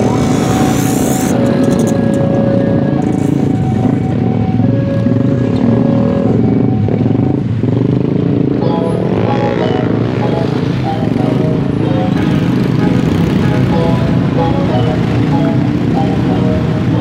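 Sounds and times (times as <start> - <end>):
motorcycles and scooters passing: 0.0 - 17.0.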